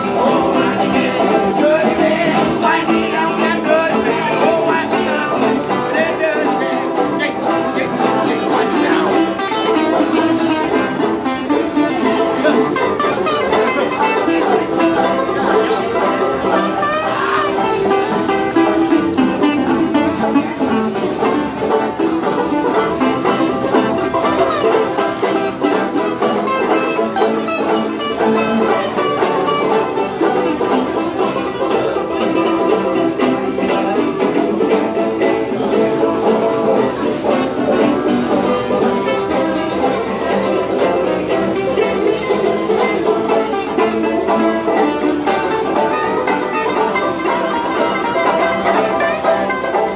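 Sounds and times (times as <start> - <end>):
bluegrass string band playing: 0.0 - 49.9.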